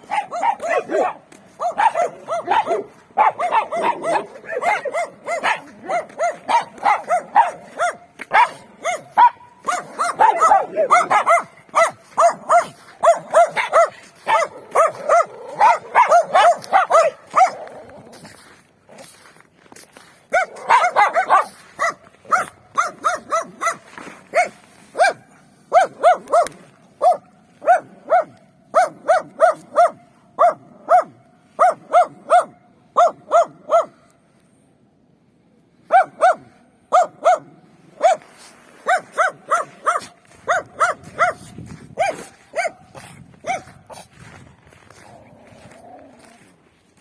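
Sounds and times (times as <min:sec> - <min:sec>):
dogs barking: 0:00.0 - 0:18.3, 0:20.3 - 0:34.0, 0:35.9 - 0:44.1.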